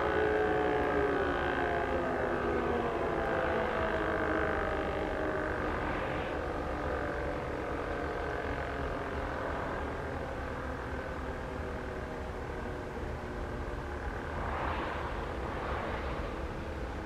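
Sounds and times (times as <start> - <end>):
electric siren held tone: 0.0 - 14.2.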